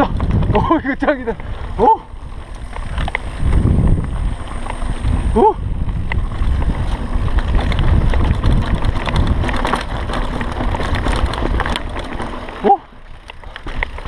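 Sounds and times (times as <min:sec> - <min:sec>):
bike rattling and clicking: 0:00.0 - 0:14.0
bike tyres rumbling on dirt: 0:00.0 - 0:14.0
wind rush on microphone: 0:00.0 - 0:14.0.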